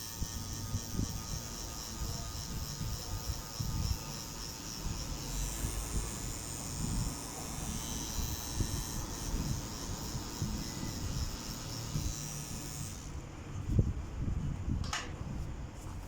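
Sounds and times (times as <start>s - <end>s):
tattoo machine buzzing: 0.0s - 13.8s.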